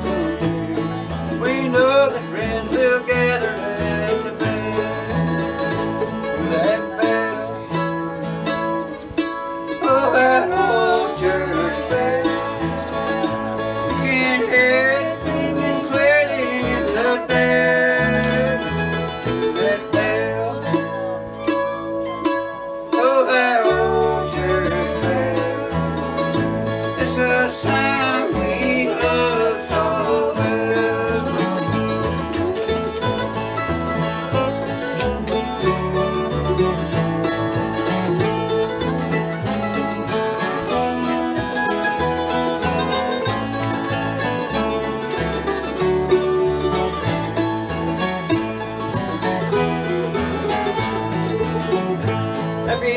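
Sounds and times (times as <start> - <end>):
banjo picking: 0.0 - 52.9
bluegrass band playing: 0.0 - 52.9
guitar picking: 0.0 - 52.9.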